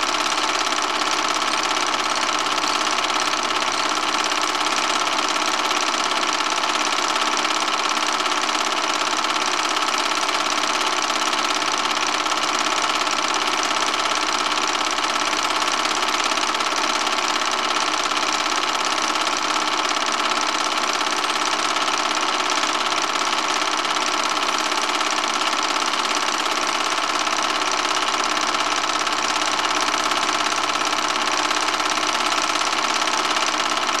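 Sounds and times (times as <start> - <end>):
film projector whirring: 0.0 - 34.0.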